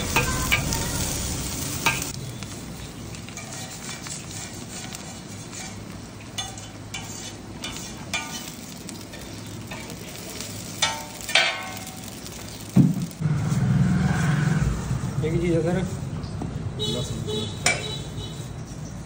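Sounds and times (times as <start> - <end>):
vegetables sizzling in wok: 0.0 - 16.2.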